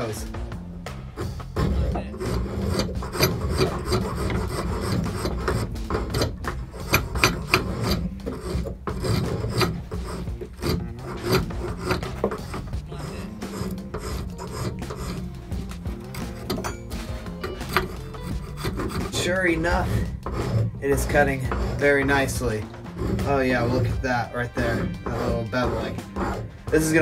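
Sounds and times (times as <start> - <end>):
drawknife scraping wood: 1.0 - 27.0.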